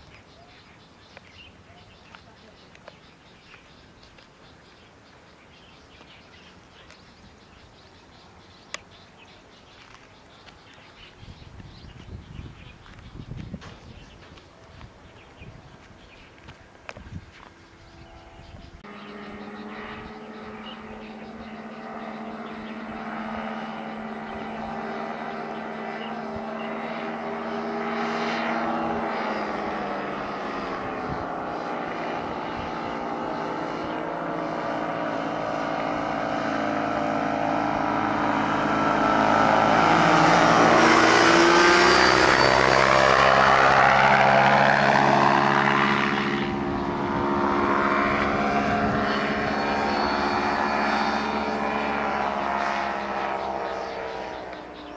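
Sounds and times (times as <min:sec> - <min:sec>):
ultralight aircraft flyby: 0:00.0 - 0:54.9.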